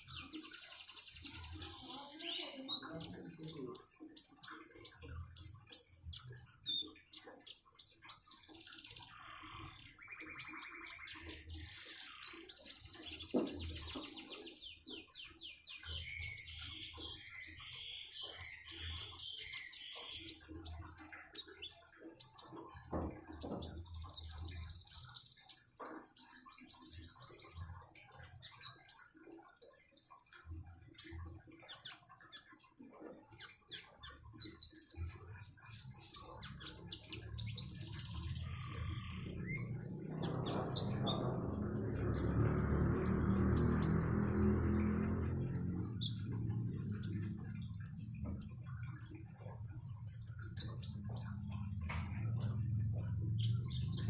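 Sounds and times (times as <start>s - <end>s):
songbird singing chirps and trills: 0.0s - 54.0s.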